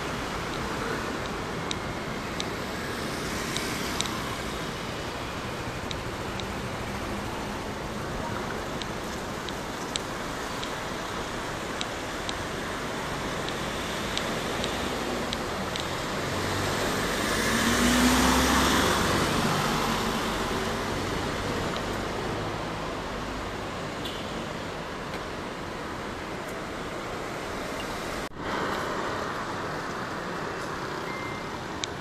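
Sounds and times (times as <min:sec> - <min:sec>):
city traffic noise: 0:00.0 - 0:32.0
vehicles driving past: 0:00.0 - 0:32.0.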